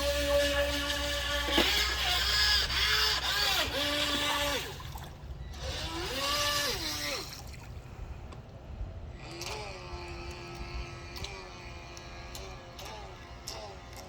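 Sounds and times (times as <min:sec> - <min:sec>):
small electric motor whining: 0:00.0 - 0:07.5, 0:09.1 - 0:14.0.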